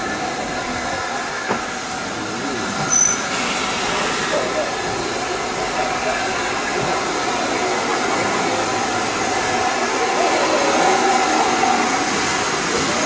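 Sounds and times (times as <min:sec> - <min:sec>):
steam hissing from locomotive: 0:00.0 - 0:13.0.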